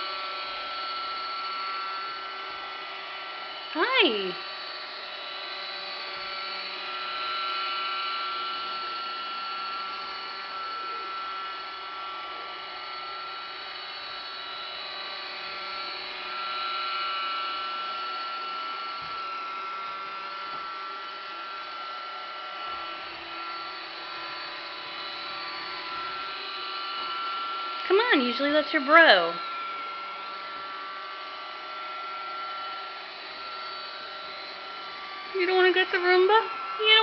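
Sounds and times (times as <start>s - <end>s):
robot vacuum motor whine: 0.0s - 37.0s.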